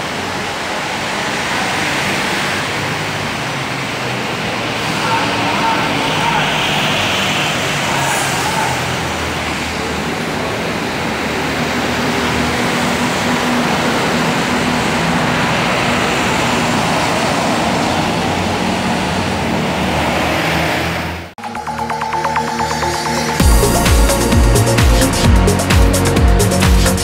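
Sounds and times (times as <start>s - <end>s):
bus diesel engine pulling away: 0.0s - 27.0s
road traffic noise: 0.0s - 27.0s.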